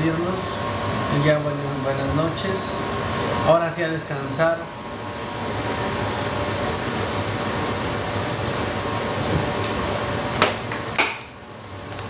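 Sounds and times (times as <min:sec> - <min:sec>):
electric appliance fan rushing: 0:00.0 - 0:12.0.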